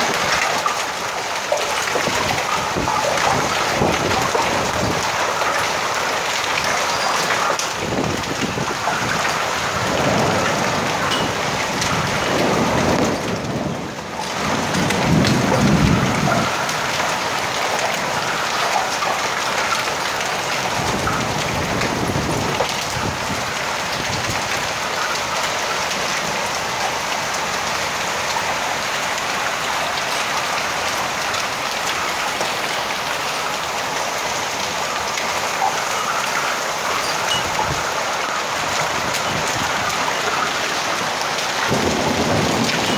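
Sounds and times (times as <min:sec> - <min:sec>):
heavy rain and hail: 0:00.0 - 0:42.9.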